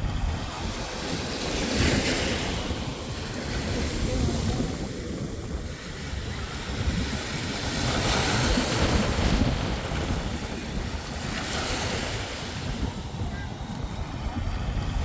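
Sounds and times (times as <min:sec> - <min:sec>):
waves washing onto sandy beach: 0:00.0 - 0:15.0
wind buffeting microphone: 0:00.0 - 0:15.0.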